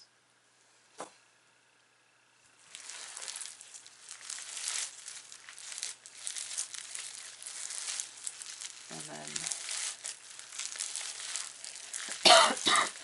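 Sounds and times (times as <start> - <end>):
slime squishing and crackling: 2.6 - 13.0.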